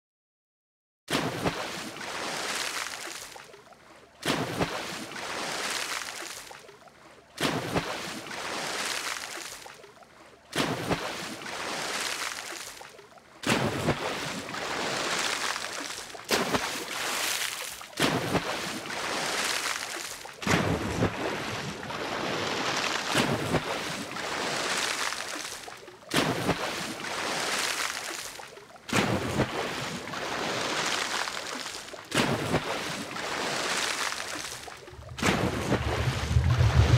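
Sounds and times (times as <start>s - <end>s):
waves breaking on shore: 1.1s - 36.9s.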